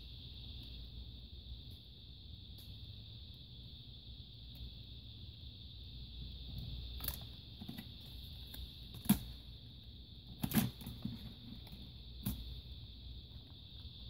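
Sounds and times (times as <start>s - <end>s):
faint high hiss: 0.0s - 14.0s.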